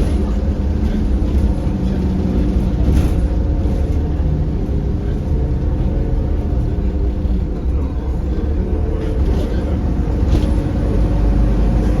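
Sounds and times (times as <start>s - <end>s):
bus engine drone with whine: 0.0s - 12.0s.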